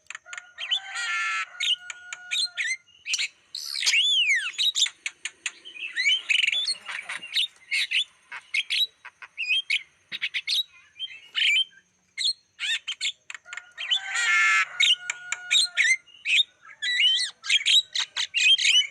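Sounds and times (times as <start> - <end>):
bird chattering song: 0.0 - 18.9.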